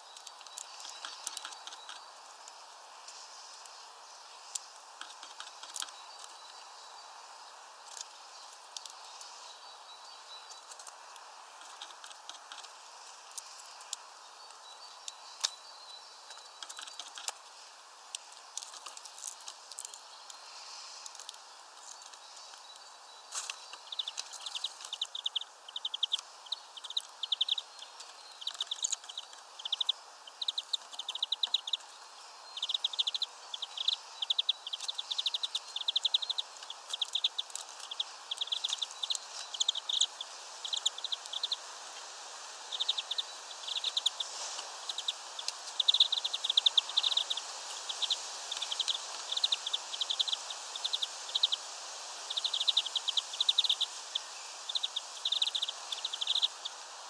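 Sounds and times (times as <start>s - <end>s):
songbirds twittering: 0.0s - 57.0s.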